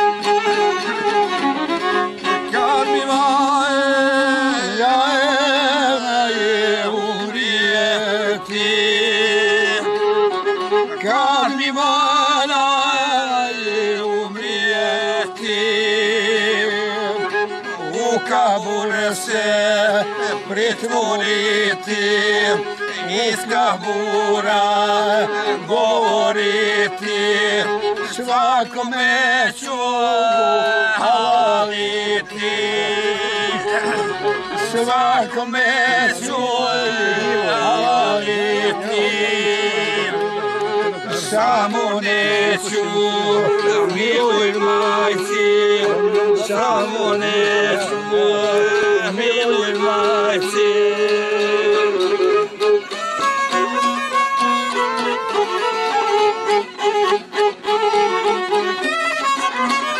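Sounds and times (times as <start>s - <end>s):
man singing: 0.0s - 59.9s
two violins playing folk music: 0.0s - 59.9s.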